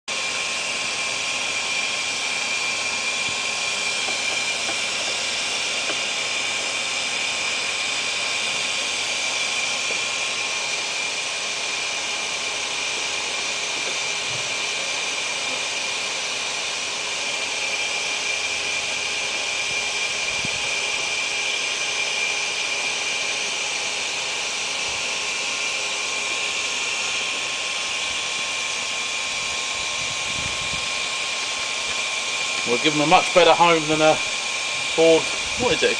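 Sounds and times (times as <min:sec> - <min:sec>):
motor whooshing and whining: 0:00.1 - 0:35.9.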